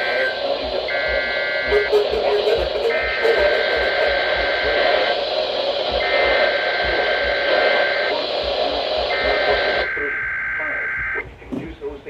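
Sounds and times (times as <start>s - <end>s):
raspy two-tone data bursts: 0.0s - 11.2s
radio hiss: 0.0s - 12.0s.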